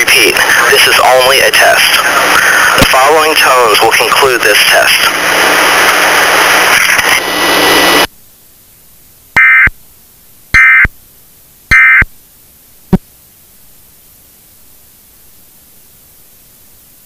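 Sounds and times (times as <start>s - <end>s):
loud static hiss: 0.0s - 17.0s.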